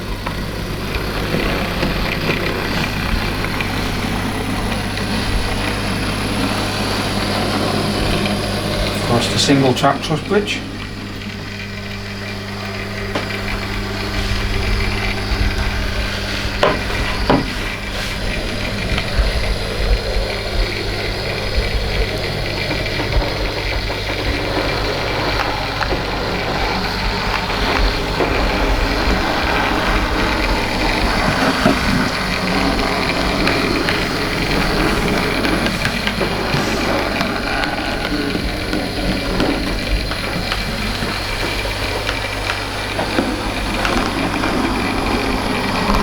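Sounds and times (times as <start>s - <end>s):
model train rumbling on track: 0.0s - 46.0s.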